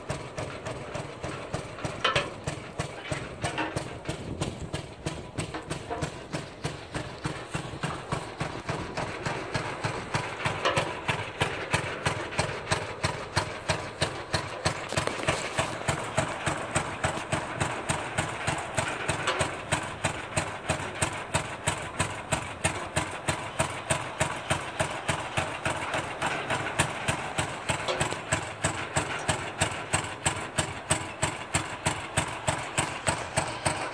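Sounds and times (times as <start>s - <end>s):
engine exhaust pops: 0.0s - 33.9s.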